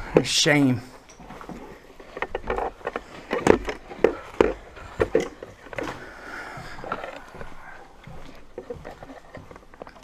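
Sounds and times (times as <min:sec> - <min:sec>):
footsteps crunching over debris: 0:00.2 - 0:10.0.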